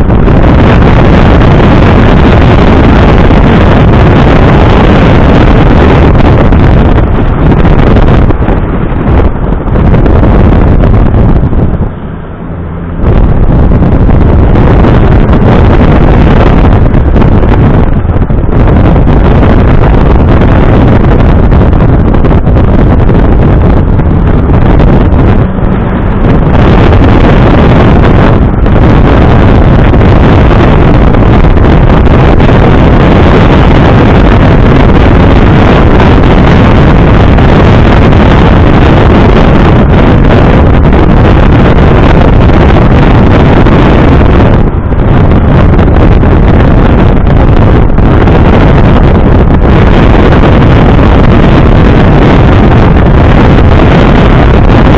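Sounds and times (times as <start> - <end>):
car engine running: 0.0 - 54.9
wind buffeting microphone: 0.0 - 54.9.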